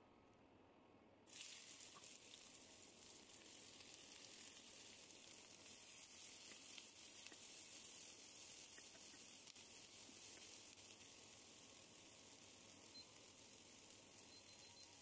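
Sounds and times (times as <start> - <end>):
onions sizzling in oil: 1.3 - 15.0
spatula turning onions: 1.3 - 15.0.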